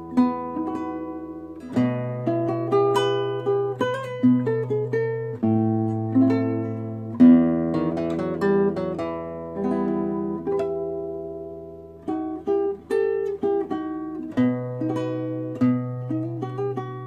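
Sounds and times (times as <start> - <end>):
classical guitar fingerstyle melody: 0.0 - 17.0.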